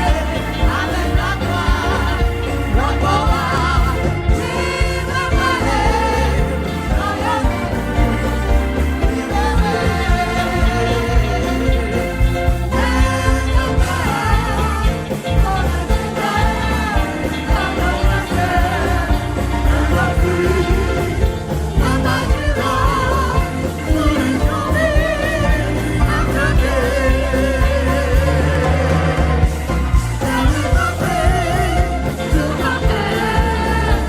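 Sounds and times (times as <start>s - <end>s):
drum beat and bass: 0.0s - 34.0s
gospel singing with vibrato: 0.0s - 34.0s.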